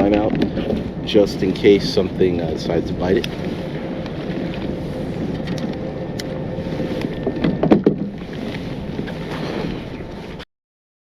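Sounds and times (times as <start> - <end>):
knocks and clunks on boat: 0.0 - 10.4
wind on microphone: 0.0 - 10.4.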